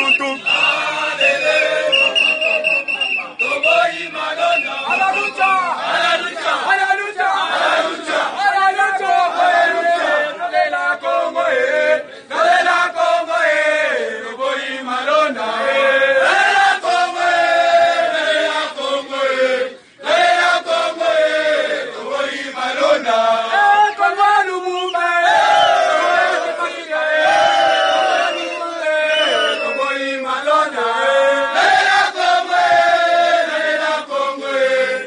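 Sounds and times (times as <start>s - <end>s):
crowd chanting in unison: 0.2s - 35.0s.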